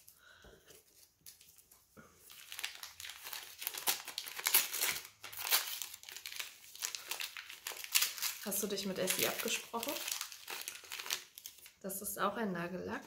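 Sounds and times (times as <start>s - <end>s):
wrapping paper crinkling: 0.7s - 11.8s.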